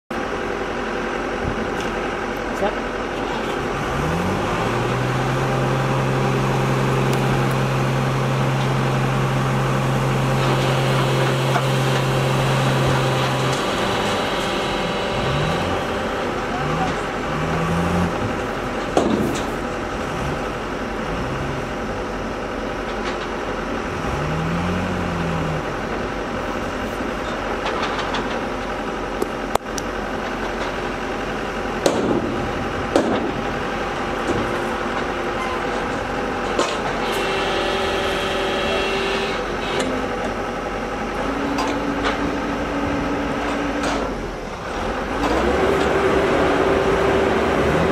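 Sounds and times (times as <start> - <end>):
excavator diesel engines running: 0.1 - 47.9.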